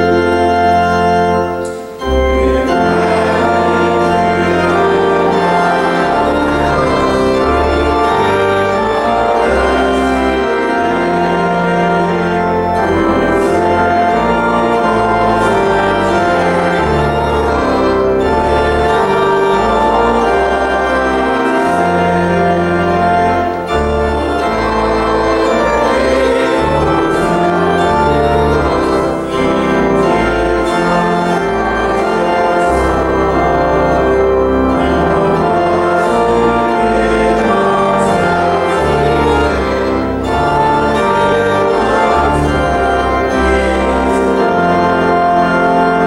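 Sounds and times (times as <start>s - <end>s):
church organ: 0.0s - 46.0s
voices singing a hymn: 0.0s - 46.0s.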